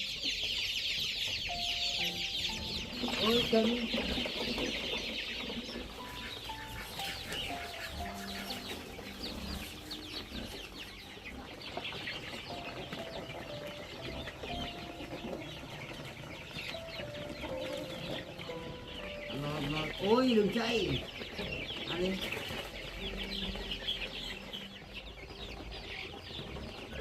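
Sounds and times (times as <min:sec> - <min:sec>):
chickens clucking and peeping: 0:00.0 - 0:27.0.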